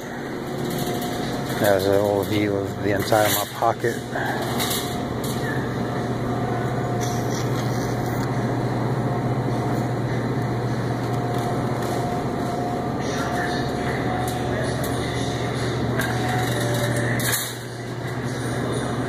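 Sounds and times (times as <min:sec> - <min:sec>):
supermarket interior hum: 0:00.0 - 0:19.0.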